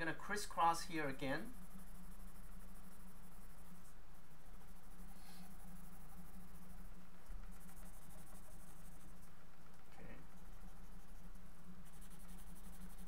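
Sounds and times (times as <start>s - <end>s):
steady low hum: 0.0s - 13.0s
pencil scratching on paper: 1.1s - 13.0s.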